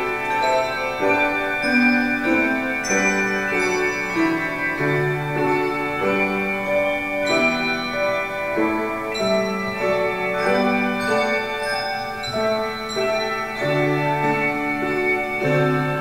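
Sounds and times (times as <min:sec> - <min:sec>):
handbell choir ringing chords: 0:00.0 - 0:16.0.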